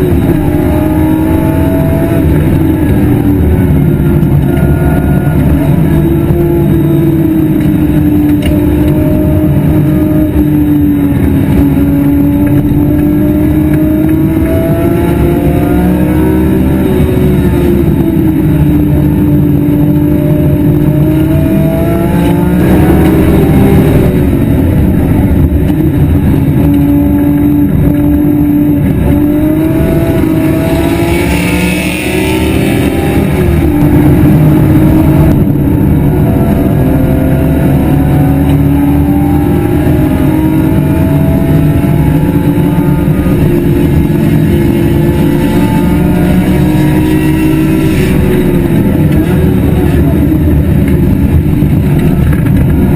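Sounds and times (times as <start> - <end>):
race car engine at high revs: 0.0 - 52.9.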